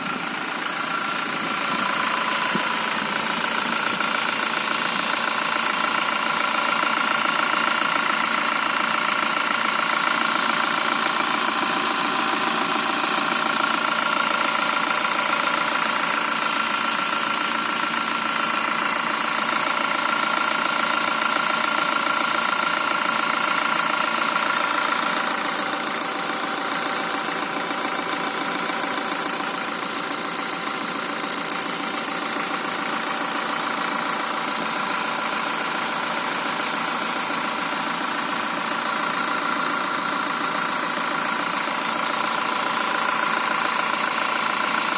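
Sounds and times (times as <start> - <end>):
car engine idling with knock: 0.0 - 44.9.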